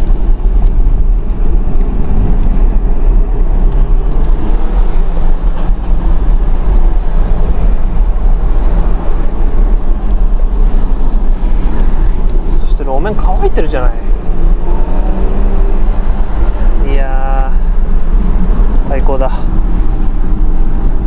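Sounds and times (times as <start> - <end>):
car engine running: 0.0 - 21.0
tyre and road noise: 0.0 - 21.0.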